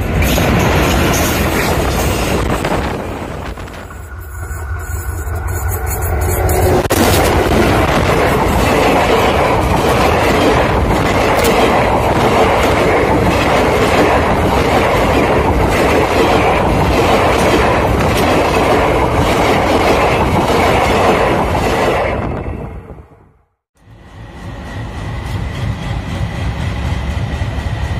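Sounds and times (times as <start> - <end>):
train wheels rumbling on rails: 0.0 - 23.0, 23.8 - 27.9.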